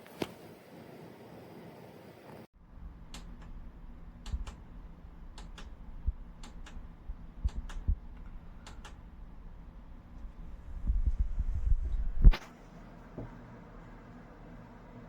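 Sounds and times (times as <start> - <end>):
low steady hum: 2.5 - 15.0.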